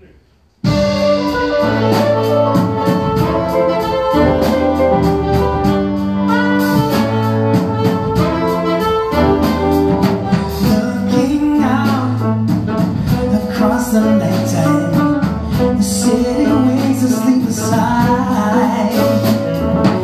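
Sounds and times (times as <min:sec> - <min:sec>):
jazz big band playing: 0:00.6 - 0:20.0.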